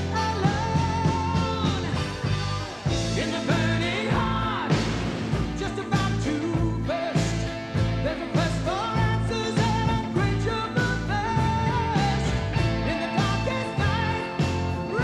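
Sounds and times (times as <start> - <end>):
song with singing and drum beat: 0.0 - 15.0.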